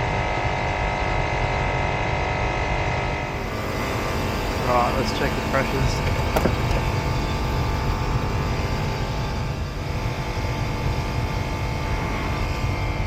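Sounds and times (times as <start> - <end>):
air conditioner rumble and hum: 0.0 - 13.0.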